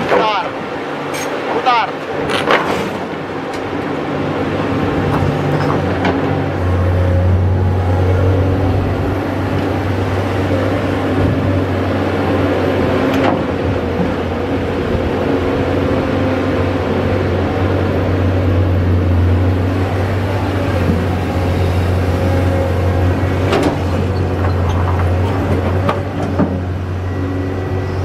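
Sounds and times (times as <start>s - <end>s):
excavator diesel engine droning: 0.0s - 28.0s.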